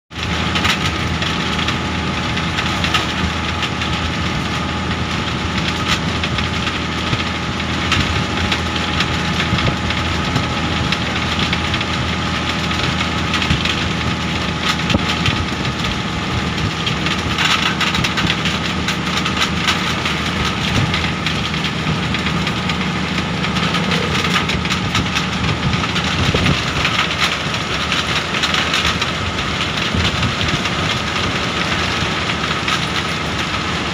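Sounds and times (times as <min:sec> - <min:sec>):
road noise: 0:00.1 - 0:33.9
vehicle engine drone: 0:00.1 - 0:33.9
small clicks and rattles: 0:00.2 - 0:33.9.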